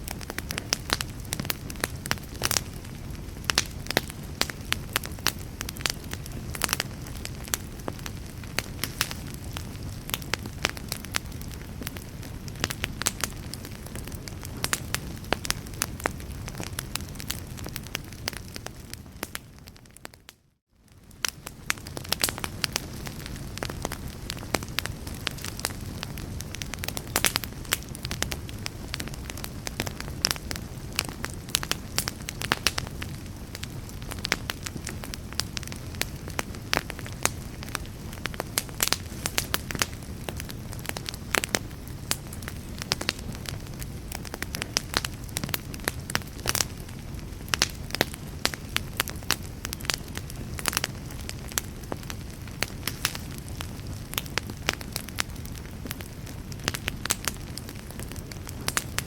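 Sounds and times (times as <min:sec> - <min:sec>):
fire crackling and popping: 0:00.0 - 0:59.0
fire rumble and hiss: 0:00.0 - 0:59.0.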